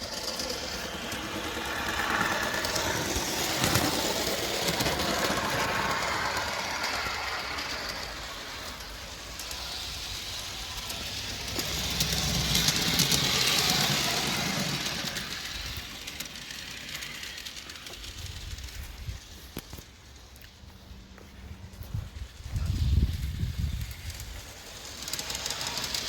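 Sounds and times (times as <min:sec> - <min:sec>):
model train motors whirring: 0:00.0 - 0:26.0.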